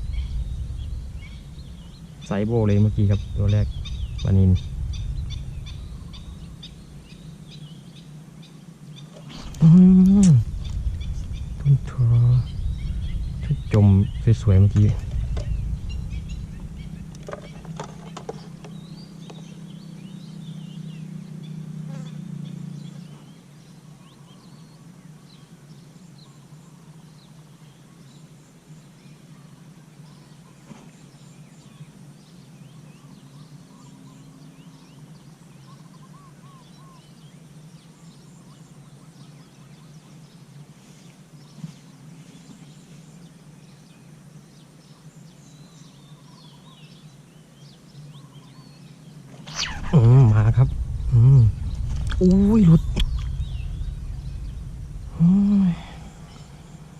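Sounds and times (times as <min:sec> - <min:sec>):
low buzzing hum: 0:00.0 - 0:35.4, 0:36.7 - 0:56.9
faint bird chirps: 0:00.0 - 0:56.9.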